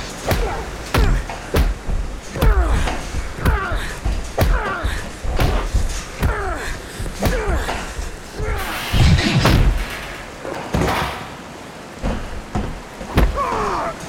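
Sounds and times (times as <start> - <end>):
punches and body blows: 0.0 - 9.8, 12.0 - 14.0.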